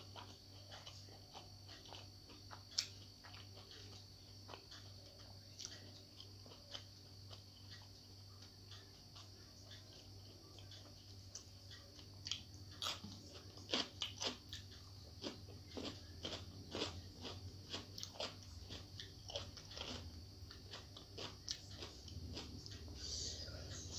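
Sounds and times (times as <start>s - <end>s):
crunchy chewing of cucumber: 0.0s - 23.9s
steady low hum: 0.0s - 23.9s.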